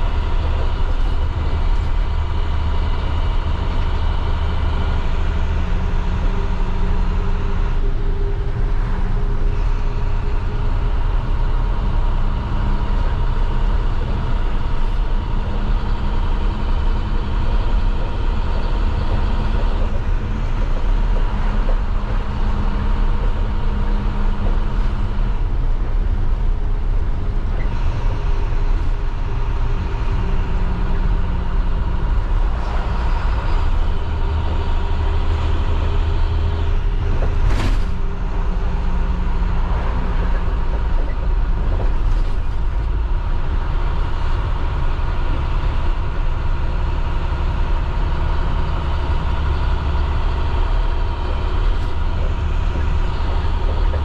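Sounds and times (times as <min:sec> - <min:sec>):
bus diesel engine running: 0:00.0 - 0:54.0
road noise: 0:00.0 - 0:54.0.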